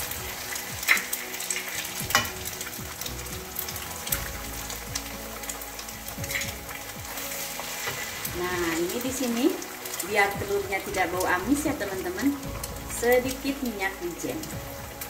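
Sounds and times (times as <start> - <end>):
eggs sizzling in oil: 0.0 - 15.0.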